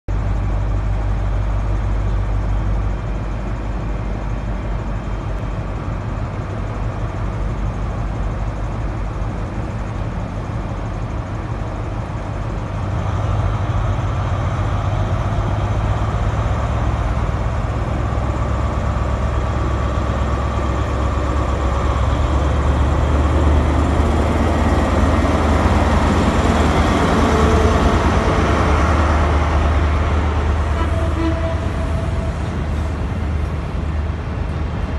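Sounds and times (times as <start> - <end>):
diesel train engine running: 0.1 - 34.9.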